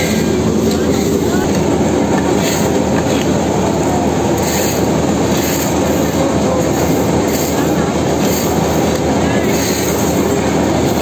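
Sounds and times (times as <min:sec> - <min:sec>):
asphalt paver engine running: 0:00.0 - 0:11.0.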